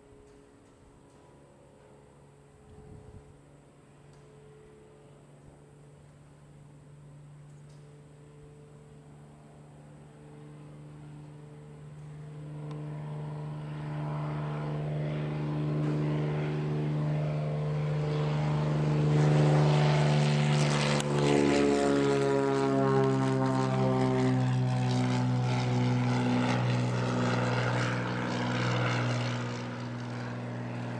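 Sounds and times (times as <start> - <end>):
propeller plane engine drone: 0.0 - 30.9.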